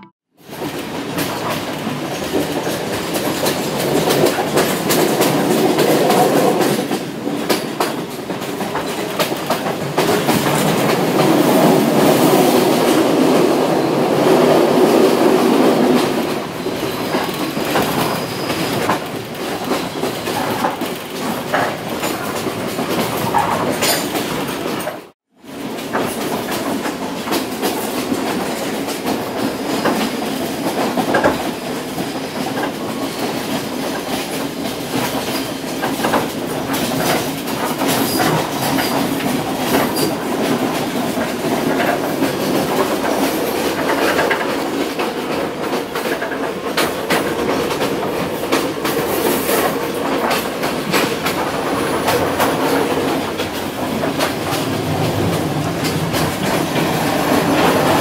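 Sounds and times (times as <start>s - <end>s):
train coach rumble: 0.5s - 58.0s
wheels clicking over rail joints: 0.5s - 58.0s.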